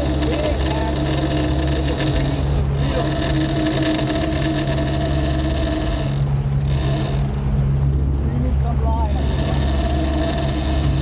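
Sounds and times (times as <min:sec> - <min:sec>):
outboard motor running: 0:00.0 - 0:11.0
wind and water rushing: 0:00.0 - 0:11.0.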